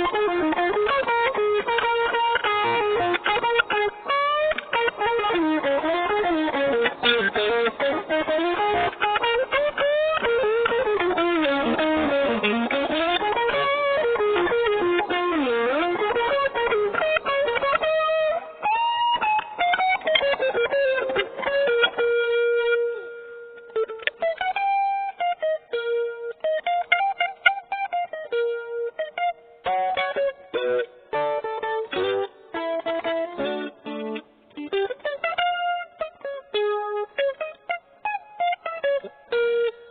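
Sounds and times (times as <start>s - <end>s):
solo guitar playing: 0.0s - 39.9s.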